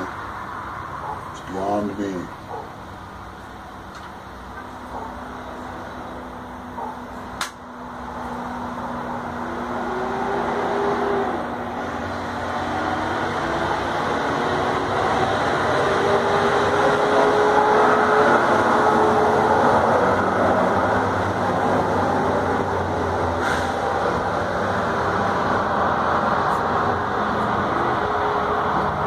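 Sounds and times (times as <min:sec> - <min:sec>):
steady mechanical drone: 0:00.0 - 0:29.0.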